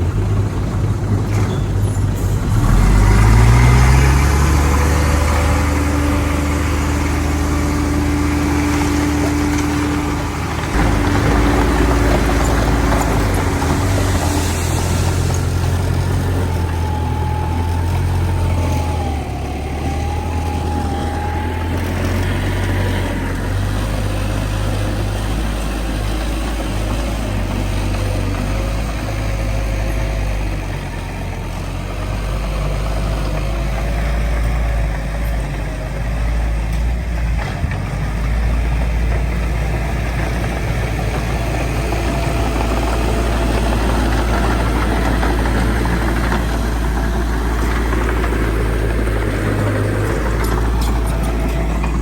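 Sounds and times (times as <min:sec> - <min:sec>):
diesel earthmoving machinery rumbling: 0:00.0 - 0:52.0.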